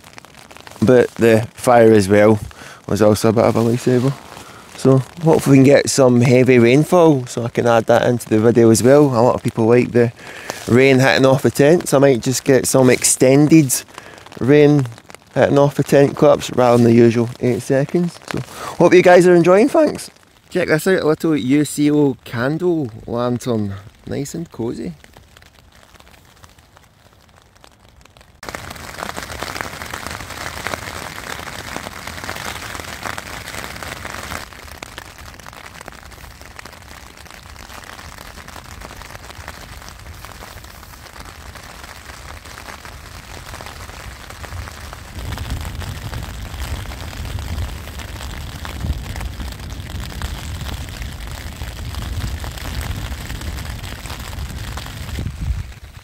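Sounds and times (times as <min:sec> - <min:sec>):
rain pattering on a tent: 0:00.0 - 0:56.0.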